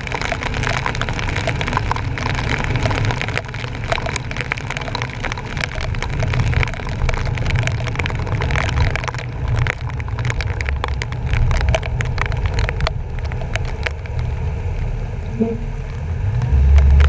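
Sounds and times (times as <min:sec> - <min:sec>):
rain drops striking camera housing: 0:00.0 - 0:17.0
truck rumbling through water: 0:00.0 - 0:17.0.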